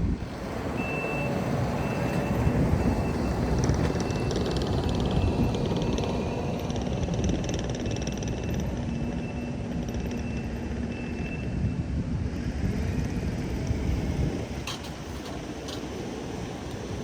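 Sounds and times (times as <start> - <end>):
diesel engine rumble: 0.0 - 17.0.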